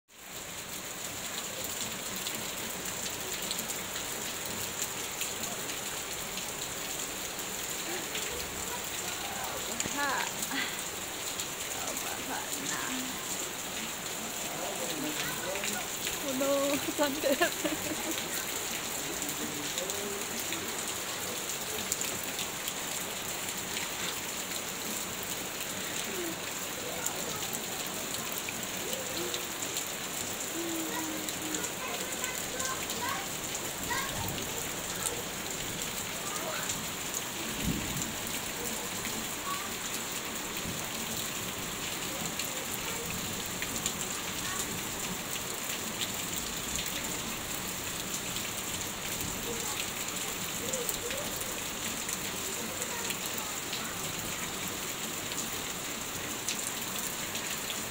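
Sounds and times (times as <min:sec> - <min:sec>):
heavy rain falling: 0:00.1 - 0:57.9
water streaming off a roof: 0:00.1 - 0:57.9.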